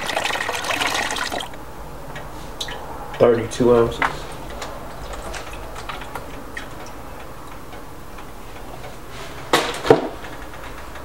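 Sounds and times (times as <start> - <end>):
steady low hum: 1.5 - 11.0.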